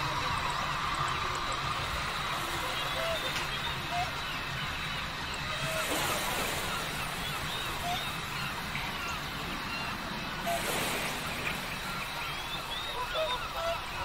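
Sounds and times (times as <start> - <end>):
birds chirping: 0.0 - 14.0
steady rushing noise: 0.0 - 14.0.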